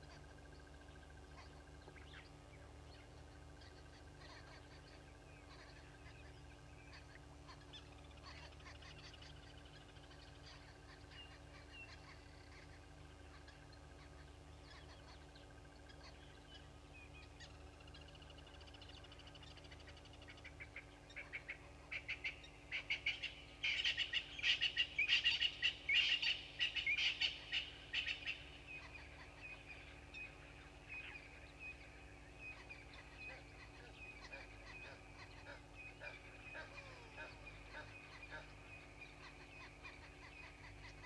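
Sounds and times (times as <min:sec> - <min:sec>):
birds calling rapidly: 0:00.0 - 0:41.0.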